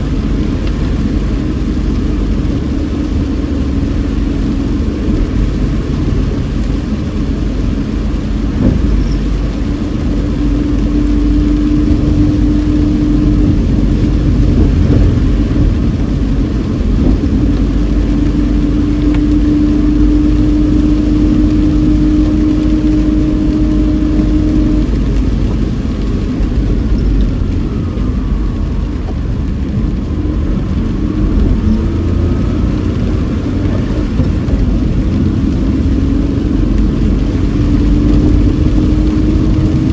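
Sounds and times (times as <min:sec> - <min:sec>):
car engine drone: 0:00.0 - 0:39.9
tyres on wet road: 0:00.0 - 0:39.9.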